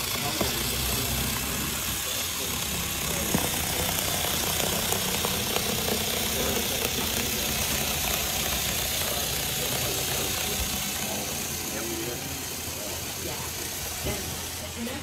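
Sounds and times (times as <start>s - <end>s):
electric cutter motor buzzing: 0.0s - 15.0s.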